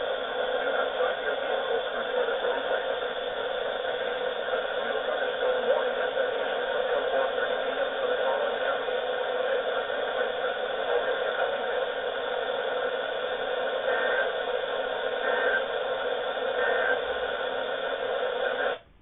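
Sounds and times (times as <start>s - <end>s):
radio static: 0.0s - 18.9s.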